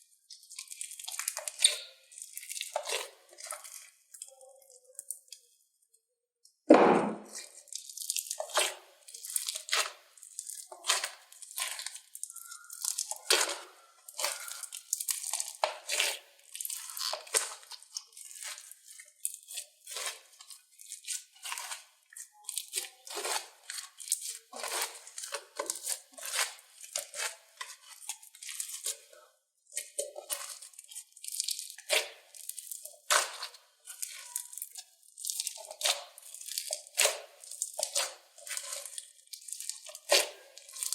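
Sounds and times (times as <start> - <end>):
slime squelching by hand: 0.1 - 5.6, 7.2 - 40.9.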